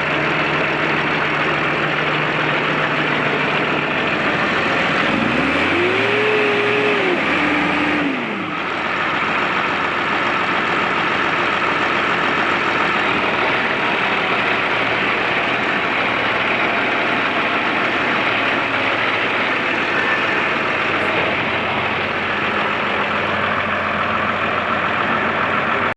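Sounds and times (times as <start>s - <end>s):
tractor diesel engine revving: 0.0s - 25.9s.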